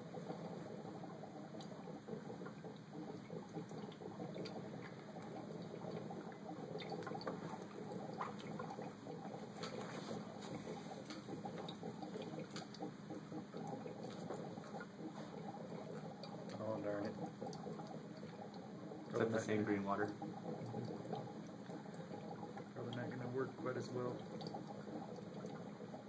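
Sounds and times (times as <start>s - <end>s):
water bubbling with small pops: 0.0s - 26.0s.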